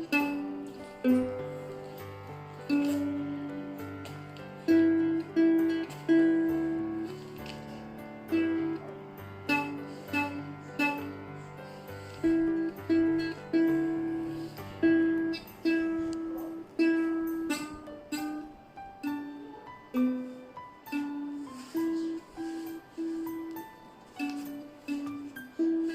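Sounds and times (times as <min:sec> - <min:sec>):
lower ukulele notes: 0:00.0 - 0:25.9
ukulele slow melody: 0:00.0 - 0:25.9.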